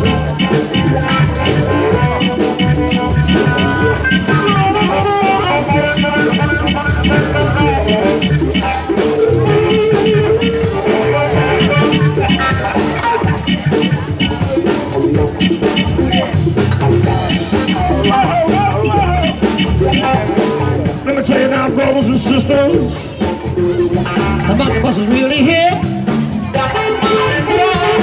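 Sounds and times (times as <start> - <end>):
live blues band playing: 0.0 - 28.0.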